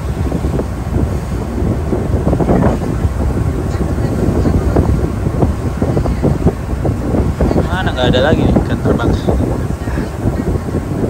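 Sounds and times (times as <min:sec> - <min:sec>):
ship engine rumble: 0:00.0 - 0:11.0
wind buffeting microphone: 0:00.0 - 0:11.0.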